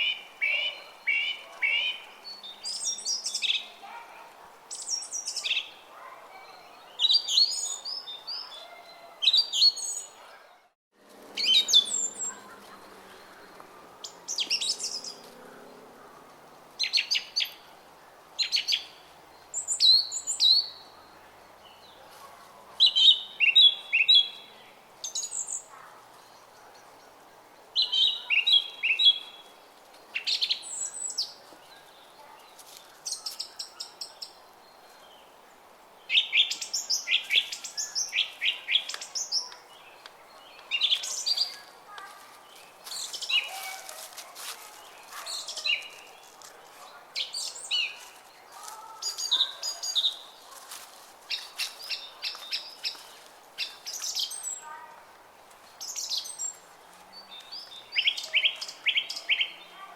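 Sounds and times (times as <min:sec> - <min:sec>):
small songbirds chirping: 0:00.0 - 0:10.4, 0:11.3 - 0:15.8, 0:16.8 - 0:17.8, 0:18.4 - 0:22.2, 0:22.8 - 0:54.9, 0:55.6 - 0:59.9.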